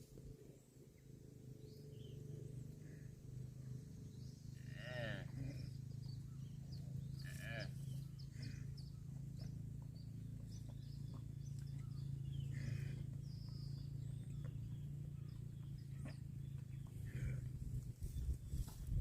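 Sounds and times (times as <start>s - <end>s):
low steady hum: 0.0s - 19.0s
small birds chirping: 0.0s - 19.0s.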